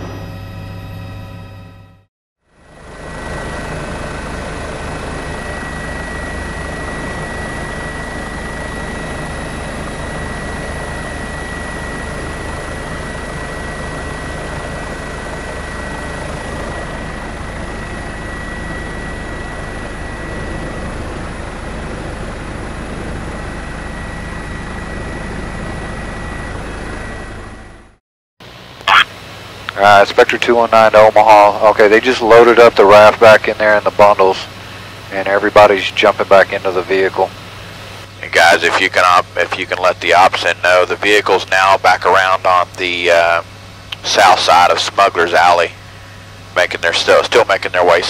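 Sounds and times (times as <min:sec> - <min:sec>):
helicopter engine and rotor drone: 0:00.0 - 0:48.0
high-pitched whine: 0:00.0 - 0:48.0.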